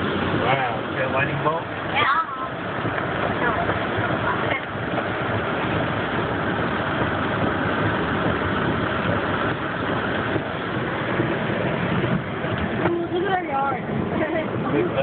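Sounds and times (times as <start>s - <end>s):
car engine running: 0.0s - 15.0s
rain on a car: 0.0s - 15.0s
tyres on wet pavement: 0.0s - 15.0s.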